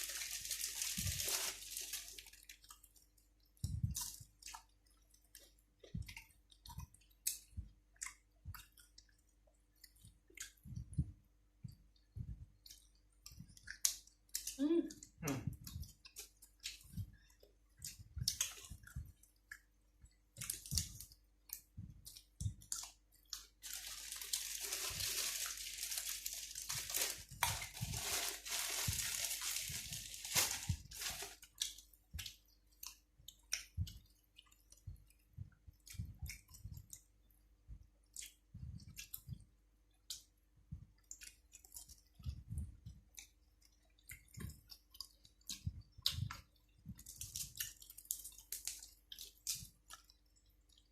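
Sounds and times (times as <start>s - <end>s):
person chewing crunchy food: 0.1s - 11.2s, 11.8s - 50.9s.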